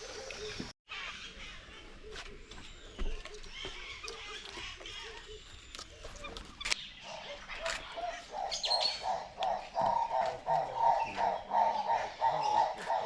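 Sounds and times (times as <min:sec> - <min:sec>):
birds chirping: 0:00.0 - 0:13.0
repeated bird call: 0:00.4 - 0:13.0.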